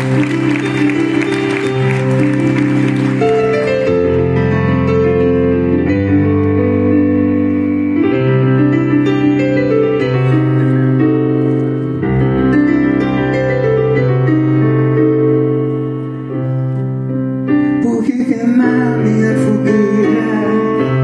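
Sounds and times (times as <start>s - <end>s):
electric piano chords: 0.0s - 21.0s.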